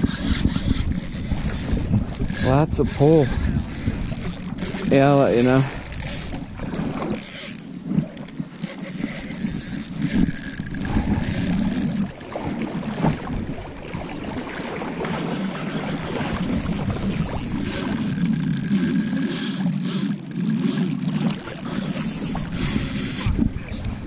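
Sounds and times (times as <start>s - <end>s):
fishing reel clicking: 0.0s - 13.3s, 15.7s - 23.5s
wind on microphone: 0.0s - 20.1s, 20.8s - 24.0s.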